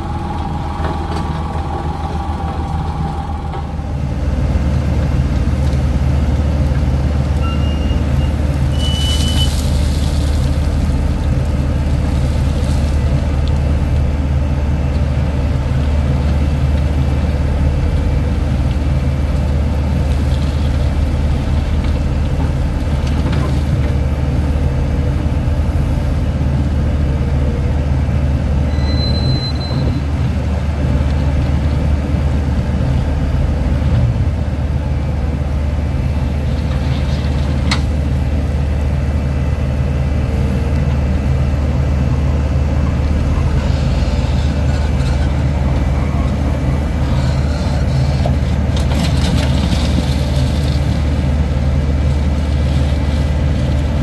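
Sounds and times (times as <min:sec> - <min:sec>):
diesel engines rumbling: 0:00.0 - 0:54.0.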